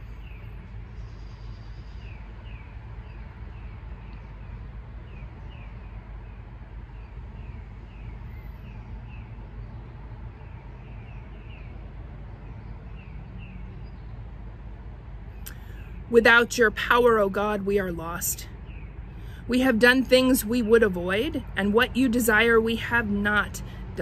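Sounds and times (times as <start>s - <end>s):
bird chirping: 0.0s - 14.2s, 15.4s - 23.6s.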